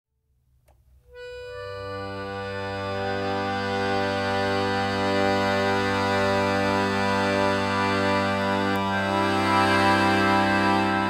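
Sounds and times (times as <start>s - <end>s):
button accordion chord: 1.1s - 11.0s.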